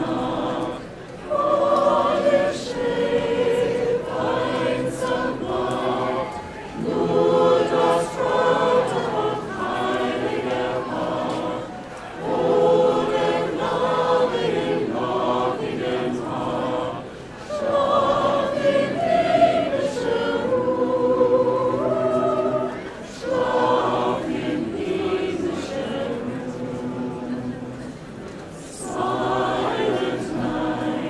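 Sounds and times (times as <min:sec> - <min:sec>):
choir singing unaccompanied: 0:00.0 - 0:31.0.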